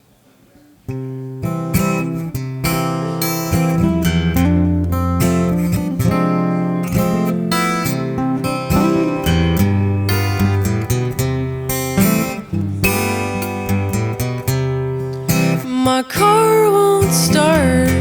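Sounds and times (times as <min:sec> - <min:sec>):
acoustic guitar strumming chords: 0:00.9 - 0:18.0.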